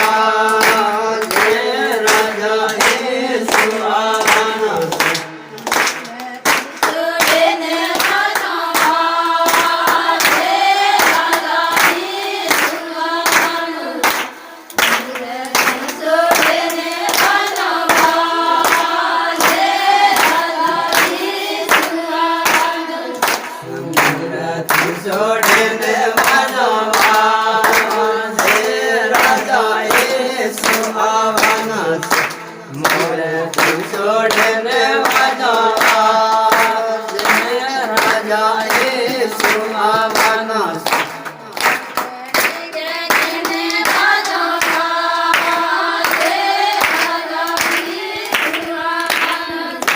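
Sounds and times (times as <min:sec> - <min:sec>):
group singing devotional song: 0:00.0 - 0:49.9
hand clapping: 0:00.0 - 0:49.9.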